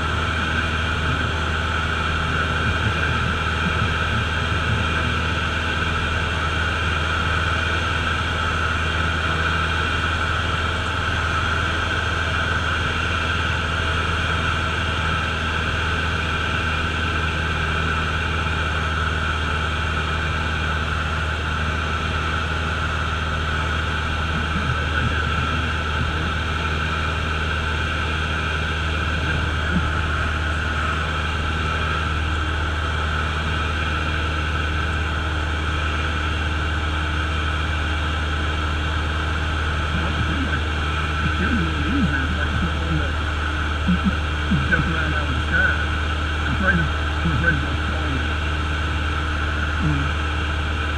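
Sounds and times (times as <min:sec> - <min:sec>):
propeller plane engine drone: 0:00.0 - 0:50.9.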